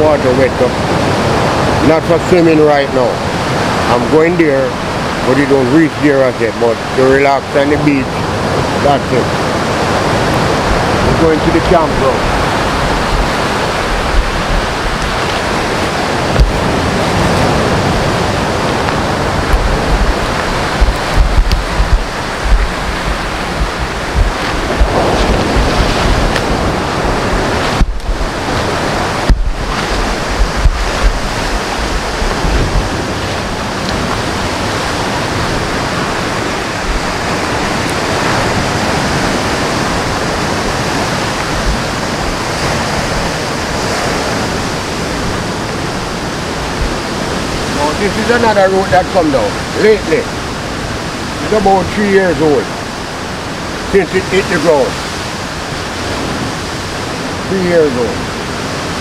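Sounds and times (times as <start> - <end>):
rushing water: 0.0 - 59.0
wind buffeting microphone: 0.0 - 59.0.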